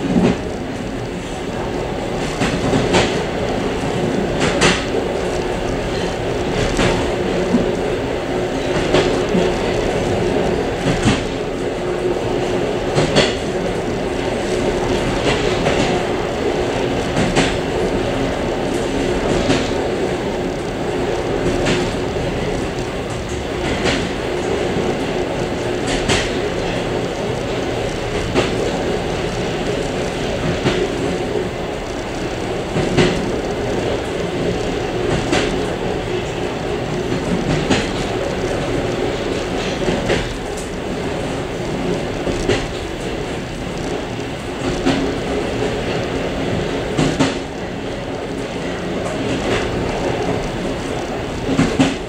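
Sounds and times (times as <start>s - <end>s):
train rumbling: 0.0s - 52.0s
wheels clacking over rail joints: 0.0s - 52.0s.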